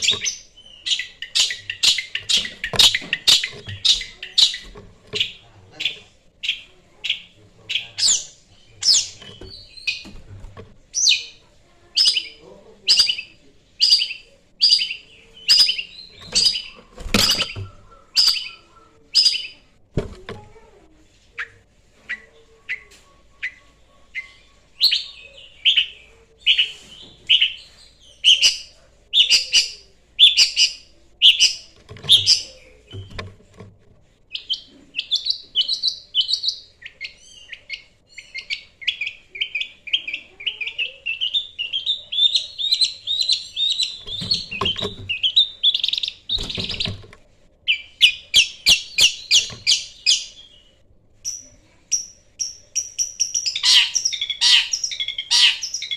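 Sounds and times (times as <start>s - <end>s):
bird singing: 0.0s - 10.3s, 10.9s - 19.7s, 21.4s - 33.4s, 34.3s - 55.9s.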